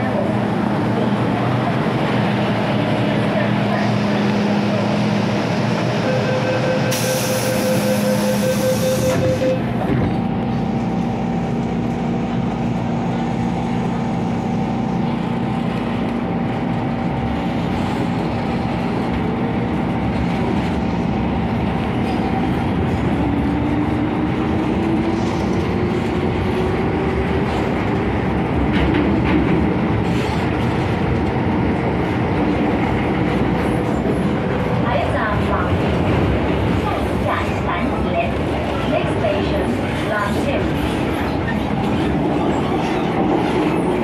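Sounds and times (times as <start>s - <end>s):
train rumbling on track: 0.0s - 44.0s.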